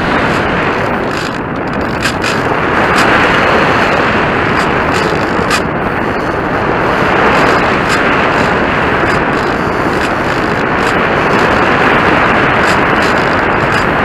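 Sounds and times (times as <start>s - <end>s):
airflow rushing: 0.0s - 14.0s
model airplane motor noise: 0.0s - 14.0s.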